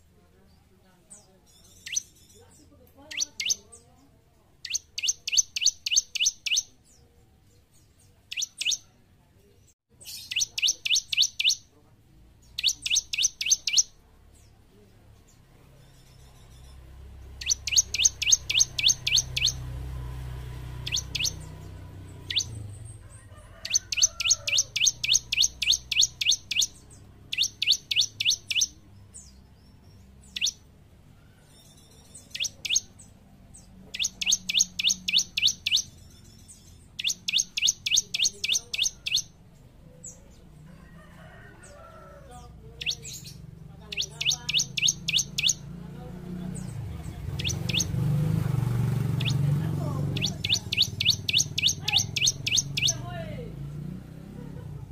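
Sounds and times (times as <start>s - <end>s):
bird chirping rapidly: 1.1s - 4.0s, 4.6s - 9.0s, 10.0s - 11.8s, 12.4s - 40.6s, 42.7s - 54.2s.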